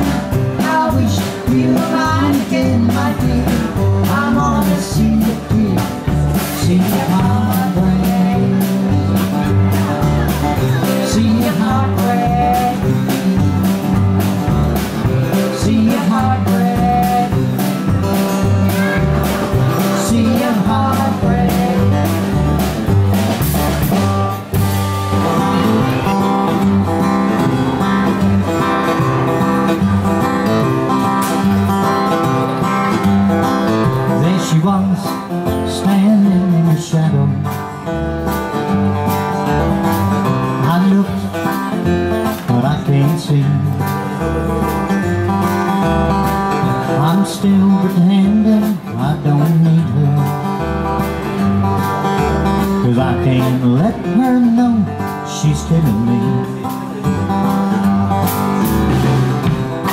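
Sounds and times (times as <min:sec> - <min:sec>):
country band playing: 0:00.0 - 0:59.9
guitar: 0:00.0 - 0:59.9.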